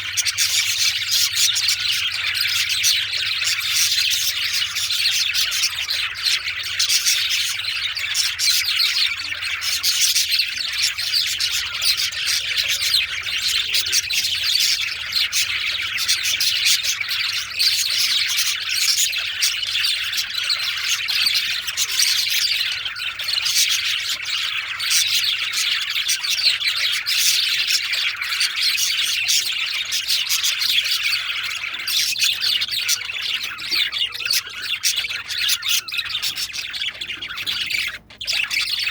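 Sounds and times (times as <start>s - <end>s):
budgies chattering and chirping: 0.0s - 38.9s.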